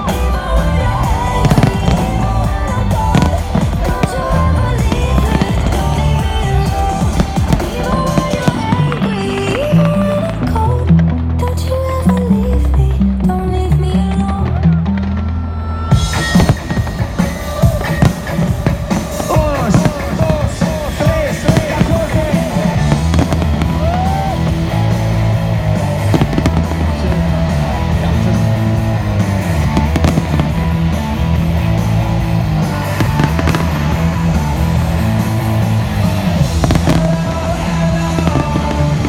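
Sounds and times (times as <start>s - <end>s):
fireworks bangs and crackles: 0.0s - 13.3s, 14.0s - 39.0s
loud music with bass line: 0.0s - 39.0s.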